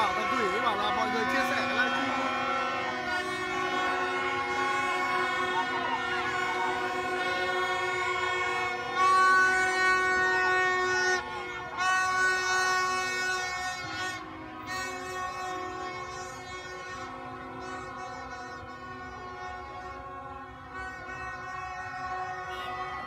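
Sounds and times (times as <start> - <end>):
horns blasting: 0.0 - 23.0.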